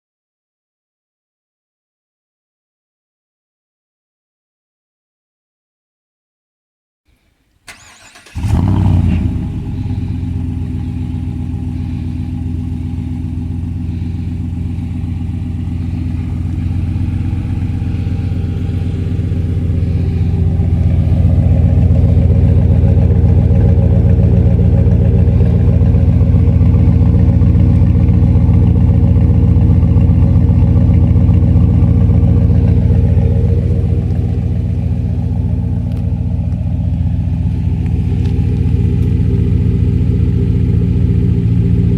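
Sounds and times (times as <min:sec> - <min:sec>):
truck engine starting and idling: 0:07.2 - 0:41.9.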